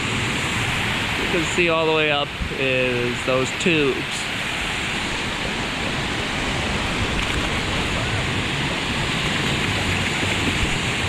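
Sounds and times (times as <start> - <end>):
water rushing down slides: 0.0 - 11.0.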